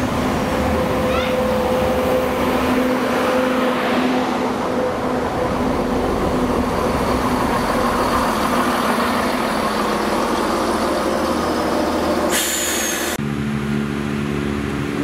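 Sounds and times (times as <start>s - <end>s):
train engine and wheel rumble: 0.0s - 15.0s.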